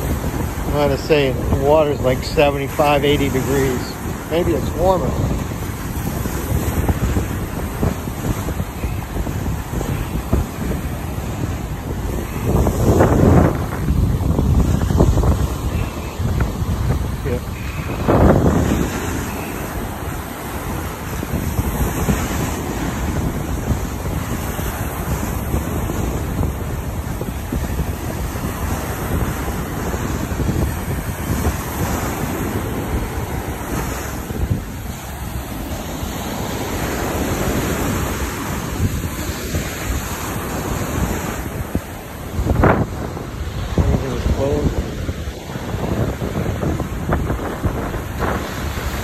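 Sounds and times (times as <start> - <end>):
waves breaking on shore: 0.0 - 49.0
wind buffeting microphone: 0.0 - 49.0.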